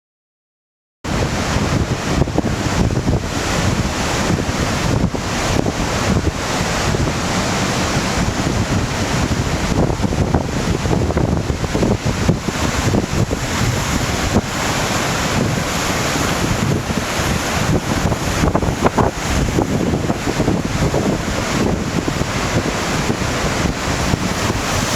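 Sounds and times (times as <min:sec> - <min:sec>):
gusty wind buffeting microphone: 0:01.1 - 0:24.9
sea waves and surf: 0:01.1 - 0:24.9.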